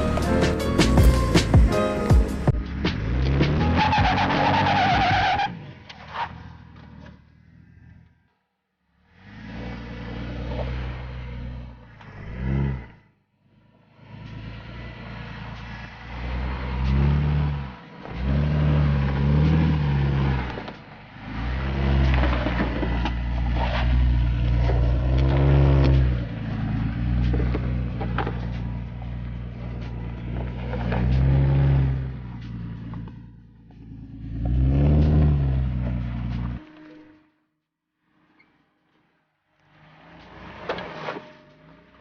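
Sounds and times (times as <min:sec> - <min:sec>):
off-road vehicle engine revving: 0:00.0 - 0:08.3, 0:09.0 - 0:36.6, 0:39.6 - 0:42.0.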